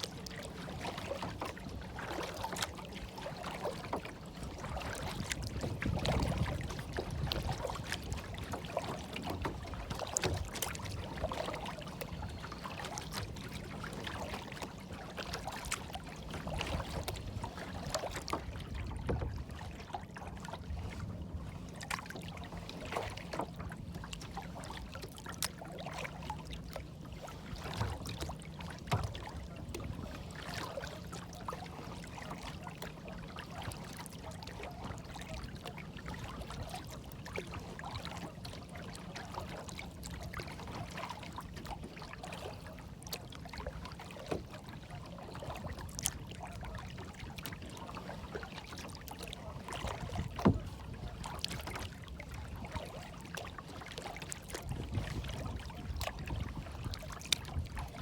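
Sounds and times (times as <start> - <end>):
water lapping and splashing: 0.0 - 58.0.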